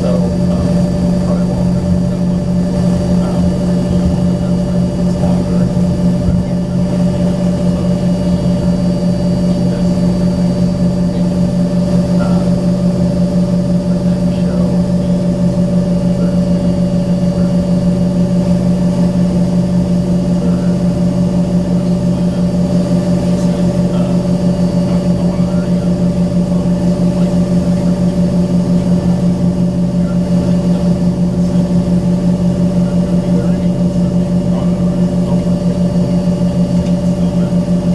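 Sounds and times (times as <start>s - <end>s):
jet cabin engine drone: 0.0s - 37.9s.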